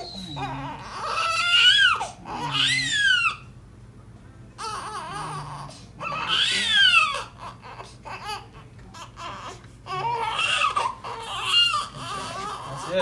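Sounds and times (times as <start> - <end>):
newborn baby crying: 0.0 - 3.4, 4.6 - 13.0.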